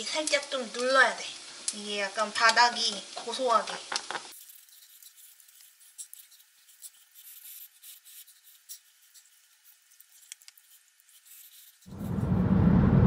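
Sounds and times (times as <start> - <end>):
rice sizzling in a pan: 0.0 - 11.9.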